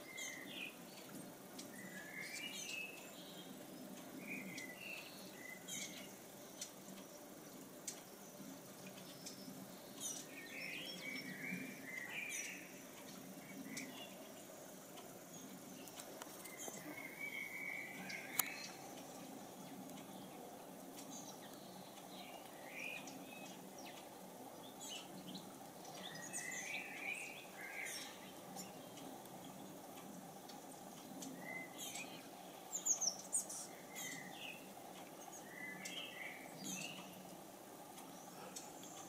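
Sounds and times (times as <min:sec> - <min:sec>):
bird chirping: 0:00.0 - 0:39.0
fountain trickling: 0:00.0 - 0:39.0.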